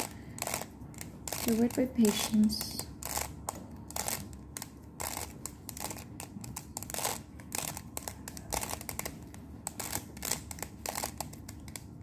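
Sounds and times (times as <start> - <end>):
puzzle cube clicking as it turns: 0.0 - 2.2, 2.8 - 12.0.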